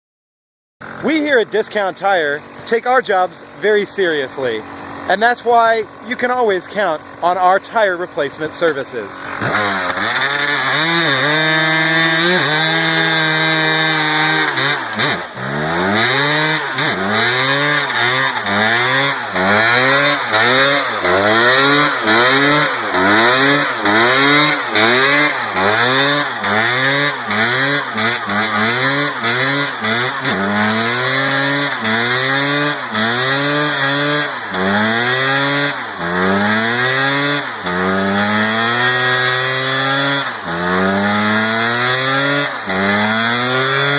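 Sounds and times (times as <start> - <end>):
tire spinning: 0.8 - 43.9
two-stroke engine revving: 0.8 - 43.9.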